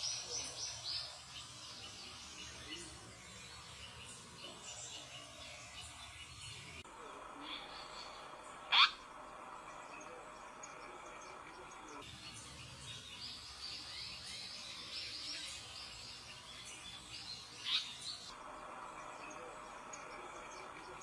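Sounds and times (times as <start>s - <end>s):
small birds chirping: 0.0s - 21.0s
steady background drone: 0.2s - 21.0s.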